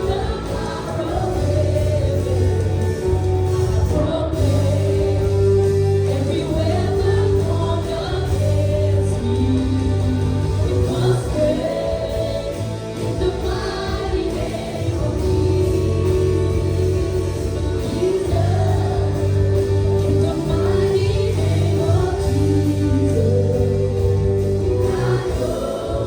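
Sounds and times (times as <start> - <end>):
bass and keyboard notes: 0.0 - 26.0
people singing long notes: 0.0 - 26.0.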